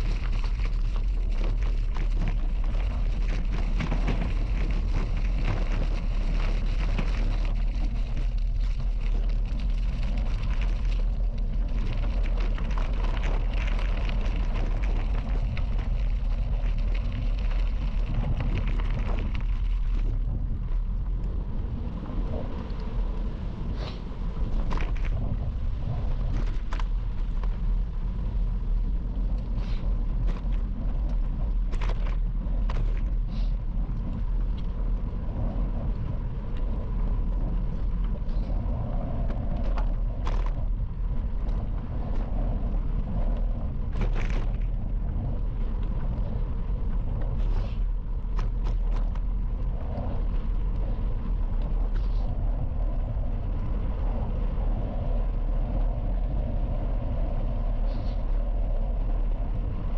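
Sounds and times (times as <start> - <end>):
bicycle tyres rolling on gravel: 0.0 - 59.9
clicks of grit under wheels: 0.0 - 59.9.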